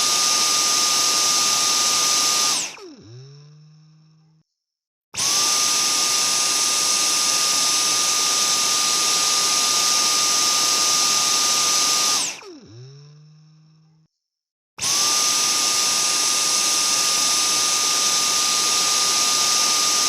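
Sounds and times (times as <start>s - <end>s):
vacuum cleaner motor whining: 0.0s - 4.2s, 5.2s - 13.8s, 14.8s - 20.0s.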